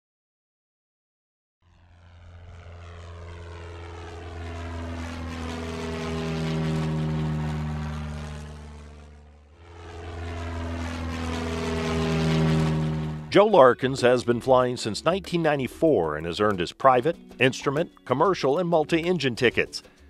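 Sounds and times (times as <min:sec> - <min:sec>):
propeller airplane flyby: 0:01.6 - 0:20.0.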